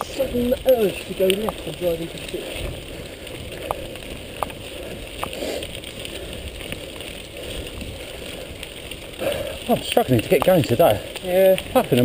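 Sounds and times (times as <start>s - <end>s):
bike clicks and rattles: 0.0s - 12.0s
bike tyres rolling on gravel: 0.0s - 12.0s.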